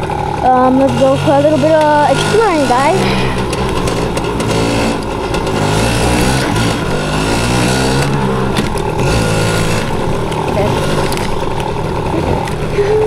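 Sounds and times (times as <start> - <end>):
dirt bike two-stroke engine: 0.0 - 13.0.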